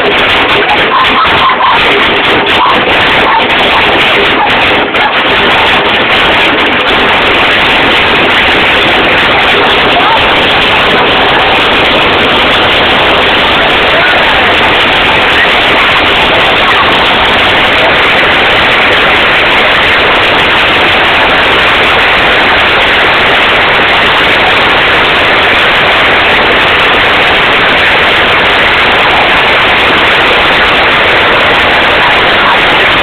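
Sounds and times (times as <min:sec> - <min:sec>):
hail pelting: 0:00.0 - 0:33.0.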